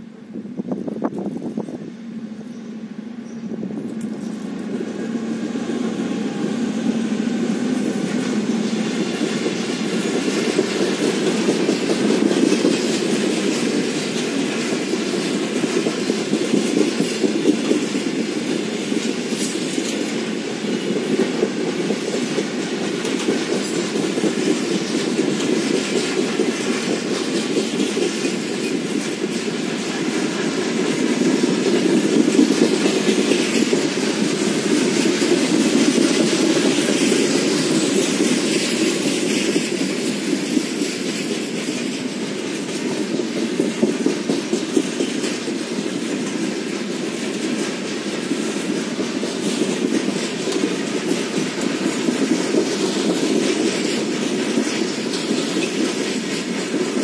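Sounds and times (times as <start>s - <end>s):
diesel locomotives passing: 0.0s - 57.0s
wheels clattering on rails: 0.6s - 57.0s.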